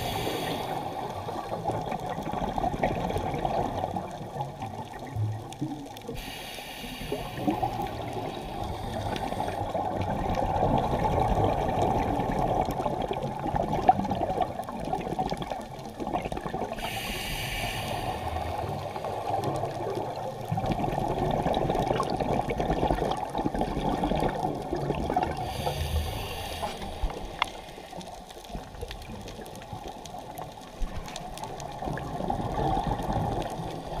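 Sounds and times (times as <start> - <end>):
muffled underwater rush: 0.0 - 34.0
scuba exhaust bubbles: 0.0 - 34.0.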